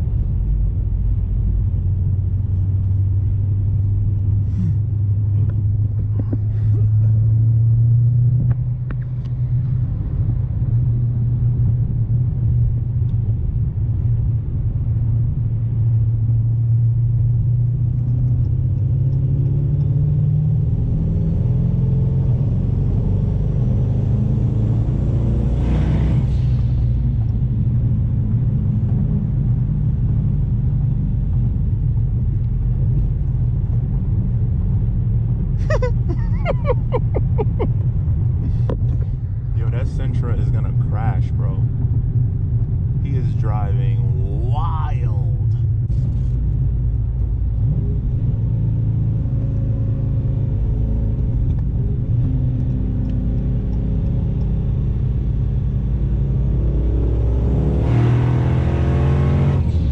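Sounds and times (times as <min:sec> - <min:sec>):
car engine droning in cabin: 0:00.0 - 0:59.9.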